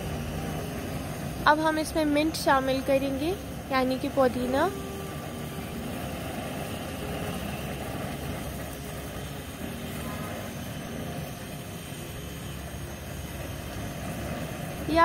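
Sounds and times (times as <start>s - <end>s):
gas burner noise: 0.0s - 15.0s
water boiling in a pot: 0.0s - 15.0s.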